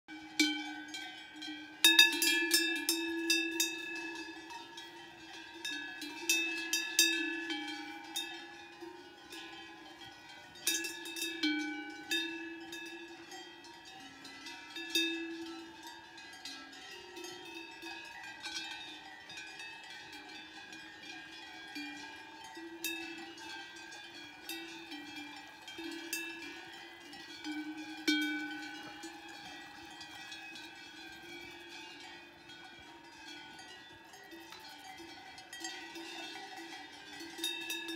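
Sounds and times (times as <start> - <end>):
cowbells clanking: 0.1 - 37.9.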